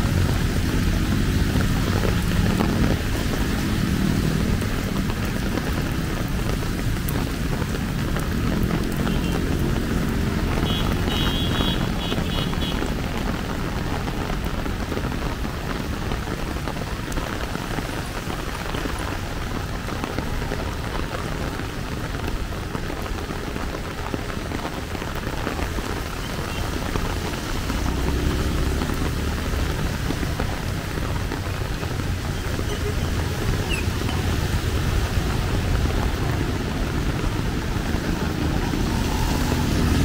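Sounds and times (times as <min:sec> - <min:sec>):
heavy rain on umbrella and pavement: 0:00.0 - 0:40.0.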